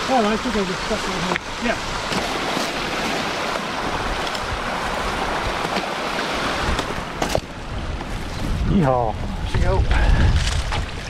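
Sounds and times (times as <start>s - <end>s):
creek water flowing: 0.0s - 9.4s.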